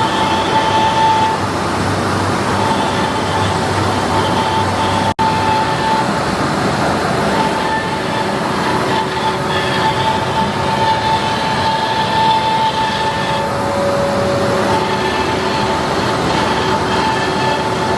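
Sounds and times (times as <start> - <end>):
metal lathe running with whine: 0.0 - 17.9.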